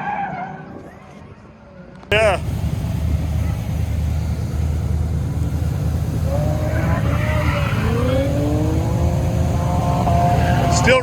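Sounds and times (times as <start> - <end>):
car engine idling: 2.1 - 11.0
faint rising whine: 2.1 - 11.0.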